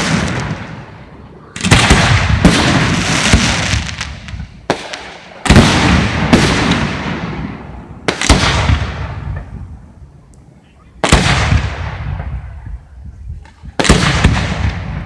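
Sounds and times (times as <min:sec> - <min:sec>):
fireworks bursting with crackling: 0:00.0 - 0:15.0.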